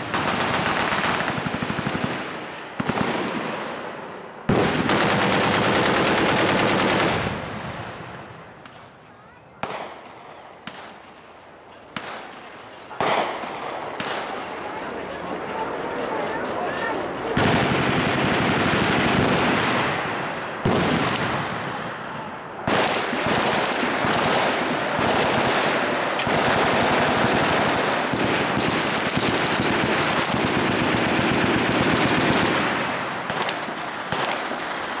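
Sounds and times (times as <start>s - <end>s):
machine guns firing bursts: 0.0s - 3.8s, 4.5s - 7.8s, 11.9s - 35.0s.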